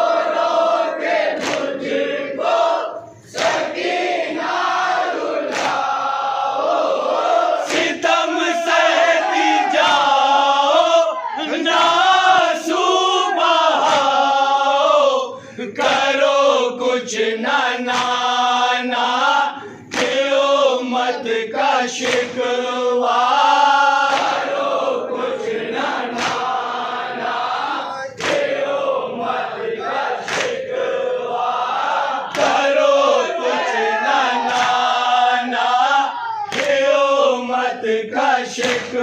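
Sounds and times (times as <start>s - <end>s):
crowd: 0.0s - 39.0s
men chanting a mourning lament: 0.0s - 39.0s.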